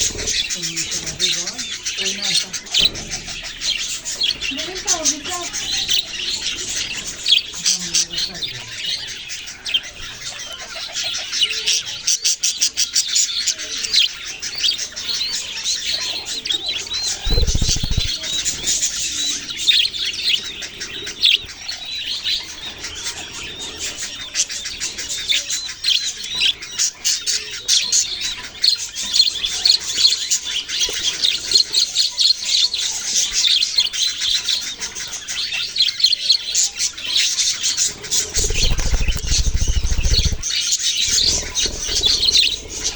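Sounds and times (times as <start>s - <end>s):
parrots chirping and chattering: 0.0s - 42.9s.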